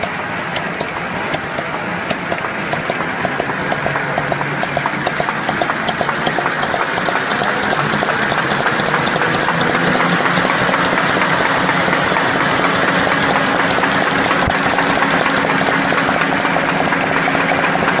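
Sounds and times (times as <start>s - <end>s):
low machine hum: 0.0s - 18.0s
machine rollers clattering: 0.0s - 18.0s.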